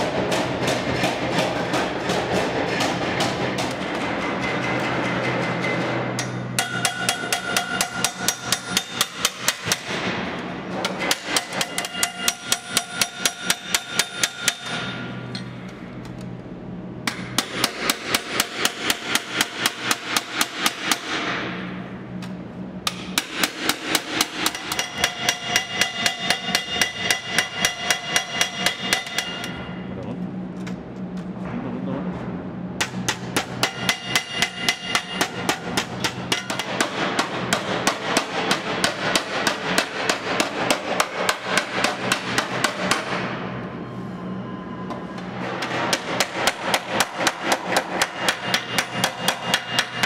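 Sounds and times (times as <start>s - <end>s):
hammer striking sheet metal: 0.0s - 15.5s, 17.0s - 21.8s, 22.8s - 29.8s, 32.8s - 43.4s, 45.5s - 50.0s.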